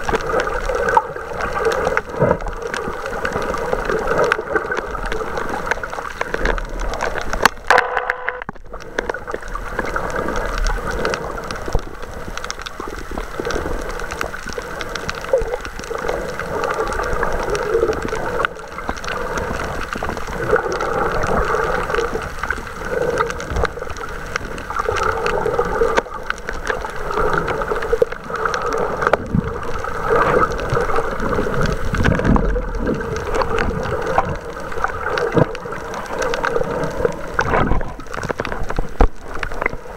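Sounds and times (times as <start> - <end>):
water sloshing underwater: 0.0 - 39.9.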